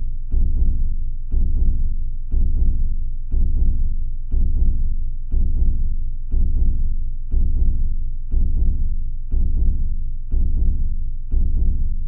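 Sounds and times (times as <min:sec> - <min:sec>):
slow heartbeat: 0:00.0 - 0:12.0.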